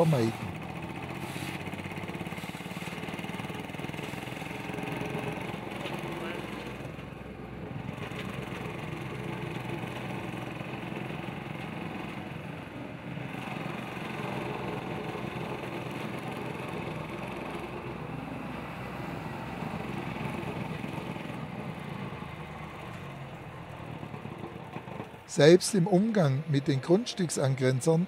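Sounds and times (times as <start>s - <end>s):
plate compactor engine running: 0.0s - 27.6s
tractor driving past: 0.0s - 27.9s.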